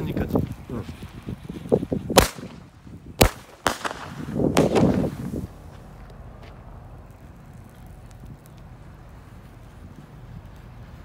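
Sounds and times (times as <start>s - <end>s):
rushing crackling noise: 0.0s - 11.0s
firework cracks: 1.2s - 11.0s.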